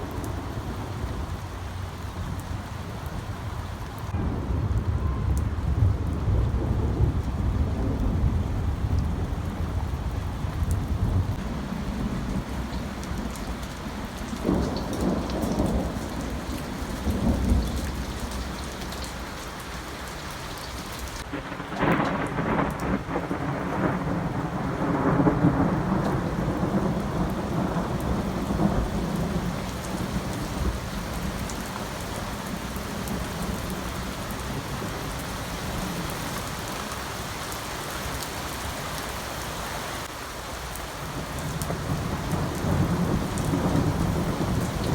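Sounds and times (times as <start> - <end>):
thunder rumbling: 0.0 - 20.1, 21.2 - 36.1, 41.1 - 44.9
steady rain: 0.0 - 44.9.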